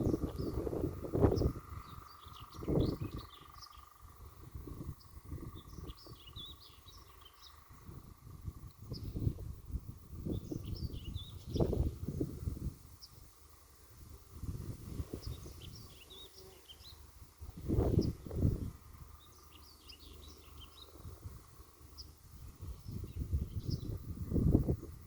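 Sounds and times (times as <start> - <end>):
wind buffeting microphone: 0.0 - 13.3, 13.9 - 16.2, 17.3 - 25.0
songbirds chirping: 0.0 - 25.0.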